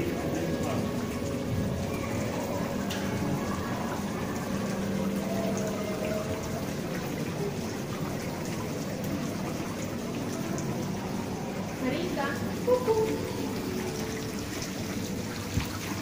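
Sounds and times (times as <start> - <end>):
running and splashing water: 0.0 - 16.0.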